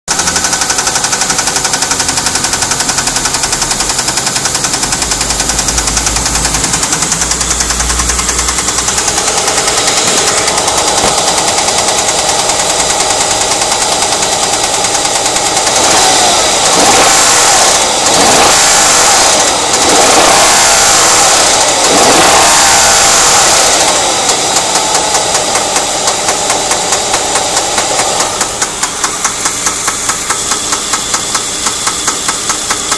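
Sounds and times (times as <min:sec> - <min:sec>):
car engine idling and revving: 0:00.1 - 0:32.9.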